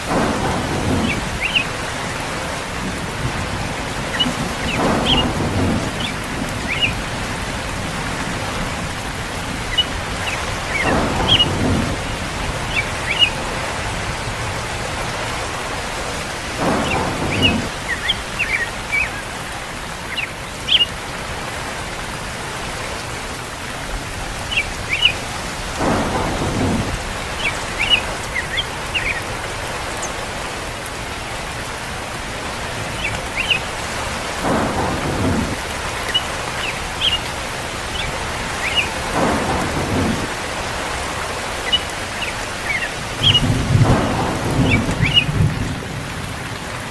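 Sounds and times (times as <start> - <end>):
steady rain: 0.0 - 46.9
thunder rumbling: 0.0 - 46.9.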